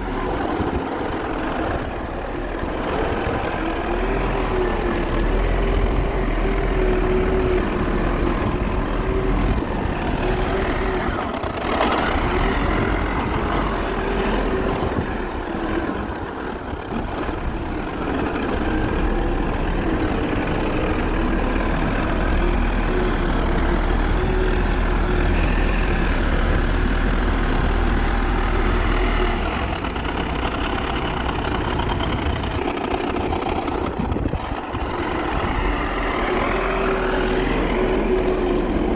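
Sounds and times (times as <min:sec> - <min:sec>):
constant engine whine: 0:00.0 - 0:38.9
wheel loader diesel engine running: 0:00.0 - 0:38.9.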